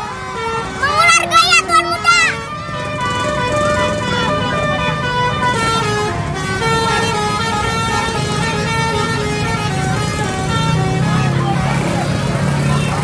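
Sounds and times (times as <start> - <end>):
bus musical horn playing a tune: 0.0 - 11.5.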